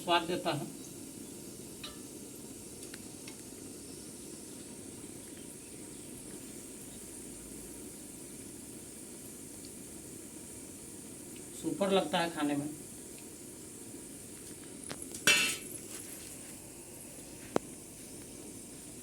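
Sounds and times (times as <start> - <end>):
faint sizzle in oil: 0.0 - 19.0.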